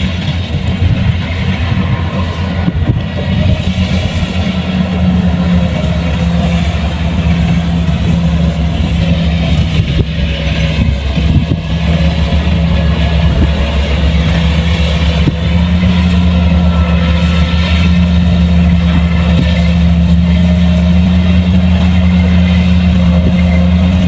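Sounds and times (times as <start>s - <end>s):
combine harvester diesel engine running: 0.0s - 24.0s.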